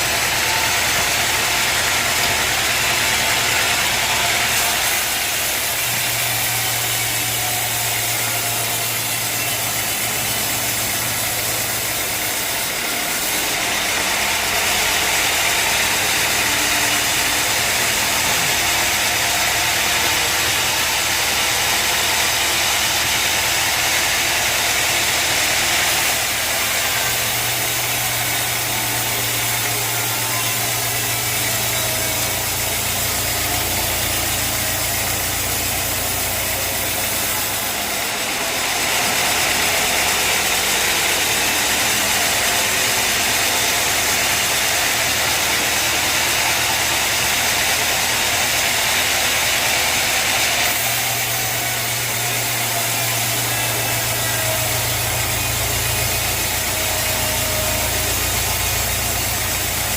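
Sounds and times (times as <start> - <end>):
saw cutting through log: 0.0 - 59.9
sawmill engine running: 0.0 - 59.9.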